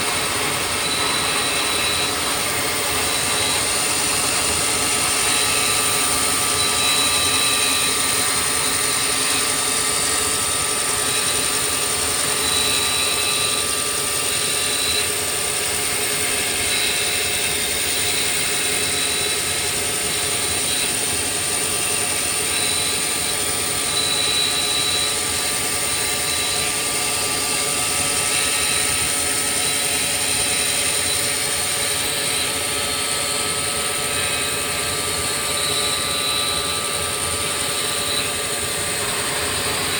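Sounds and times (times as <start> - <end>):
milling machine whine: 0.0 - 39.9.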